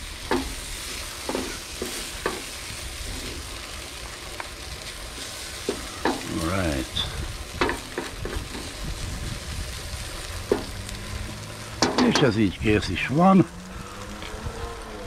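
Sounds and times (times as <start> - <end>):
filling sizzling in a frying pan: 0.0 - 15.0.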